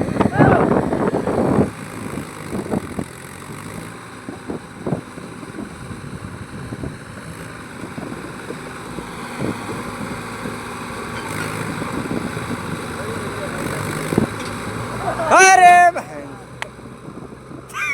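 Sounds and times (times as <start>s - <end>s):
heavy diesel engine running: 0.0s - 17.9s.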